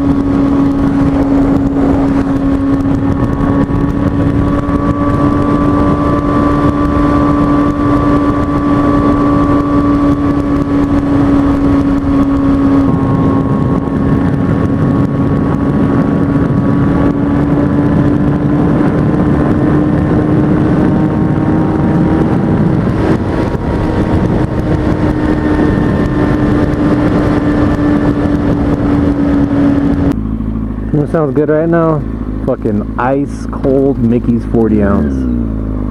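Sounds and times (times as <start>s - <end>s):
motorcycle engine at high revs: 0.0s - 35.9s
wind rushing past microphone: 0.0s - 35.9s.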